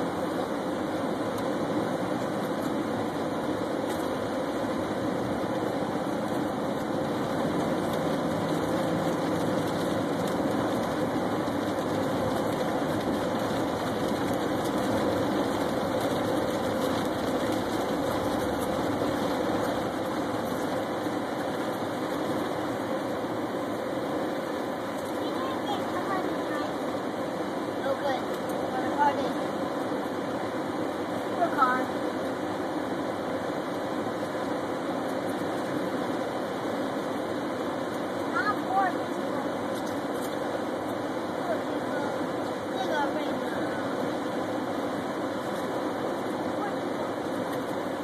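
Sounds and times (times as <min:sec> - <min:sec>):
car cabin road and engine noise: 0:00.0 - 0:48.0.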